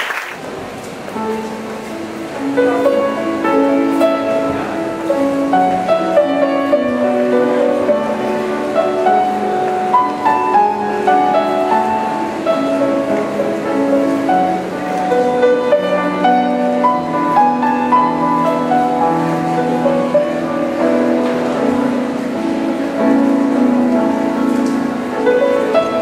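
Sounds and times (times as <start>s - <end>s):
solo grand piano piece: 0.0s - 26.0s.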